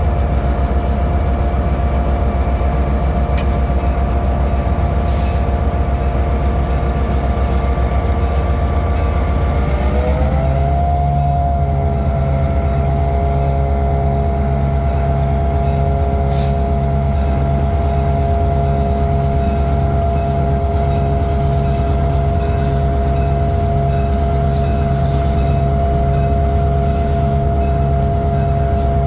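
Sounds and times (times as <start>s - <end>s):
diesel train rumble: 0.0s - 29.0s.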